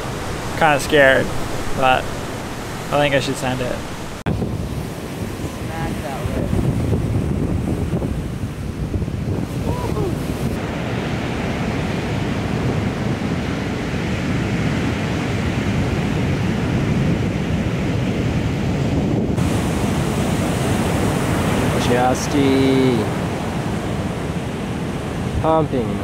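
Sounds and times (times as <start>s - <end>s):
ocean waves breaking: 0.0s - 26.0s
wind noise on microphone: 0.0s - 26.0s.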